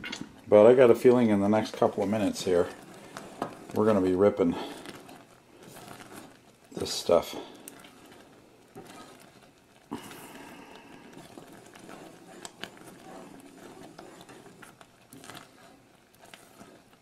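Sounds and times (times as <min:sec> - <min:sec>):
syrup bubbling: 0:00.0 - 0:17.0.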